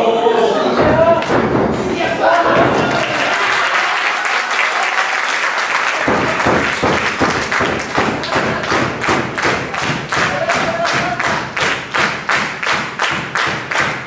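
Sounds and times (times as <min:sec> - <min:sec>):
rhythmic clapping in unison: 0:00.8 - 0:14.0
crowd applauding: 0:02.0 - 0:14.0.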